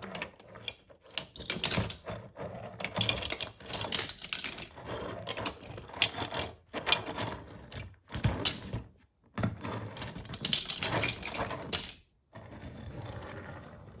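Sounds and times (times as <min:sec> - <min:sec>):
toy cars clattering and rattling: 0:00.0 - 0:08.8, 0:09.7 - 0:12.1.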